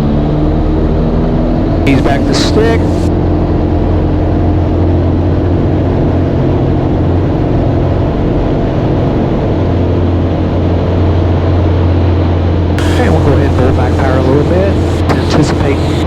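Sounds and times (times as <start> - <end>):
aircraft engine droning: 0.0 - 16.0.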